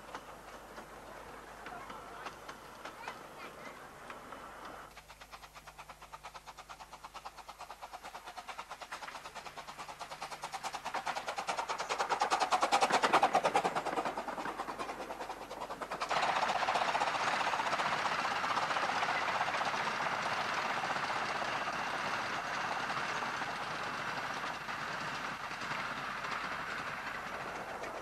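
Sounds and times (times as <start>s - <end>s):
steam locomotive exhaust chuffs: 0.0s - 28.0s.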